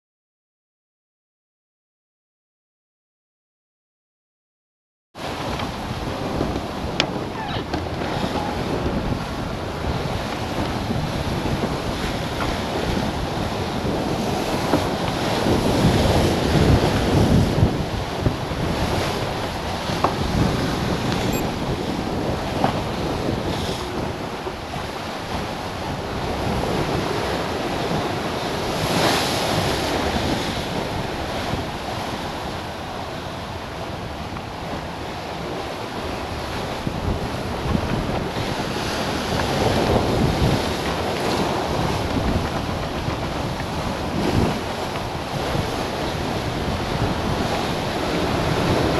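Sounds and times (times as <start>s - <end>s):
rough sea breaking along hull: 5.2s - 48.9s
wind buffeting microphone: 5.2s - 48.9s.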